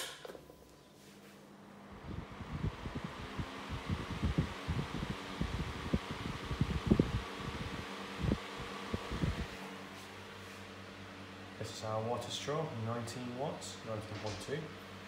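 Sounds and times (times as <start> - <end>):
desk fan whirring: 0.0 - 15.0.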